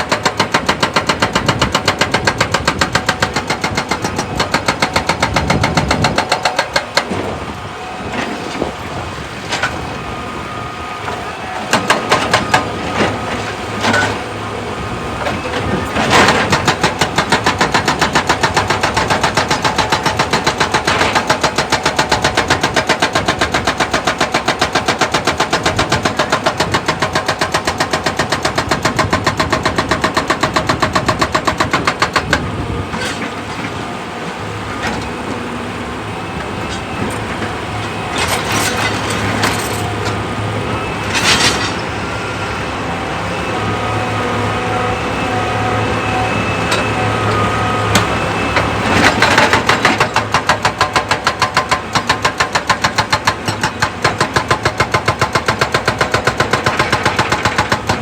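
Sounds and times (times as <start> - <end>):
excavator running: 0.0 - 58.0.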